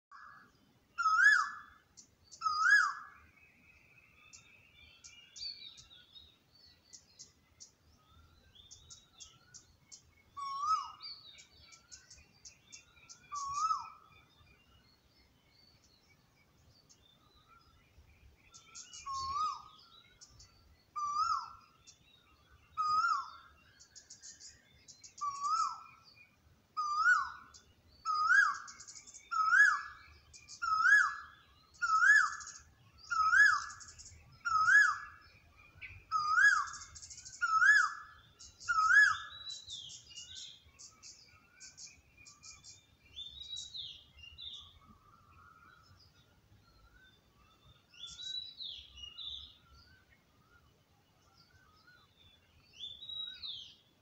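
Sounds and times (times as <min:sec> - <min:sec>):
high bird chirps and trills: 0:00.1 - 0:54.0.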